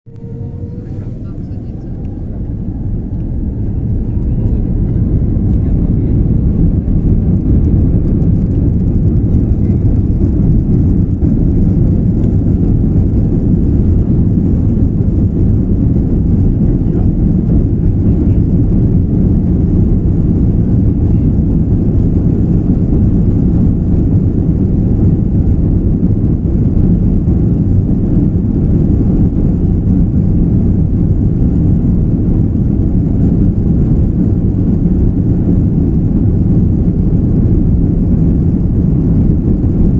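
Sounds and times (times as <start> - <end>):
airliner engines rumbling in cabin: 0.1 - 39.9.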